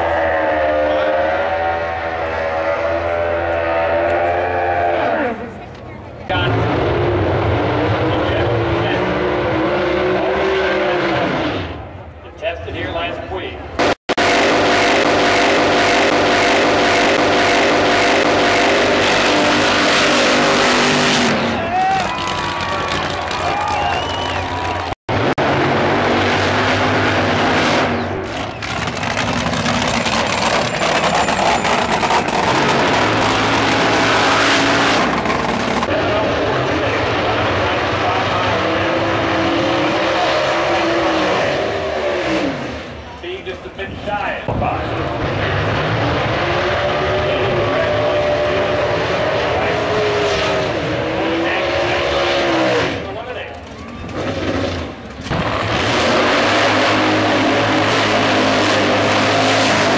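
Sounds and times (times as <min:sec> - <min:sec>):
dragster engine at full throttle: 0:00.0 - 0:12.2, 0:13.6 - 0:59.9.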